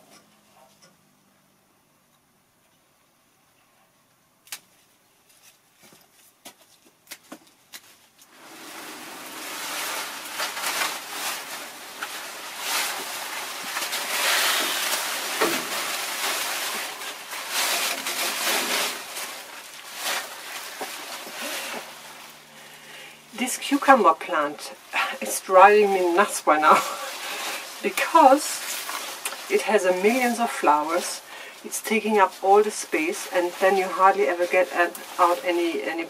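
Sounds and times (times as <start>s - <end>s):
leafy vines rustling and crackling: 7.0s - 36.0s.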